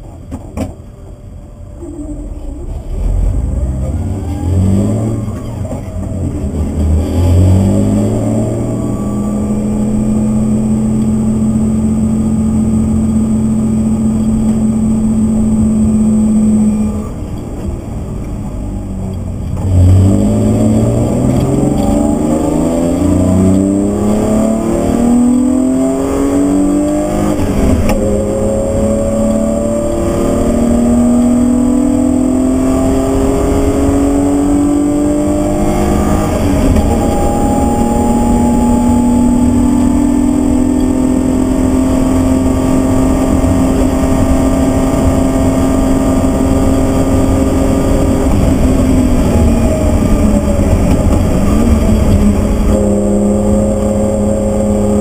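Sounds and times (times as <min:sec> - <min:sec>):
car engine accelerating through gears: 0:01.7 - 0:55.0.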